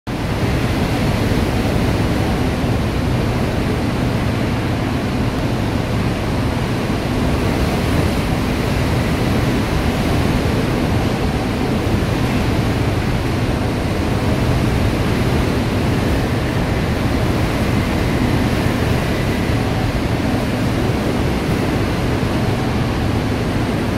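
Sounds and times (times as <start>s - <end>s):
heavy rain: 0.1s - 23.9s
hurricane wind roaring: 0.1s - 23.9s.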